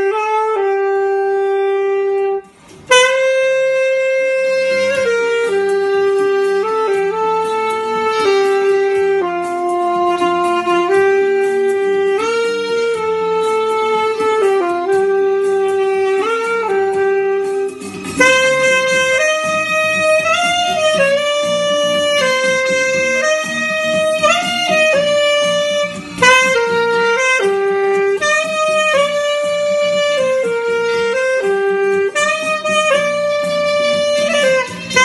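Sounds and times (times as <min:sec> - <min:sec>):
alto saxophone melody: 0:00.0 - 0:35.0.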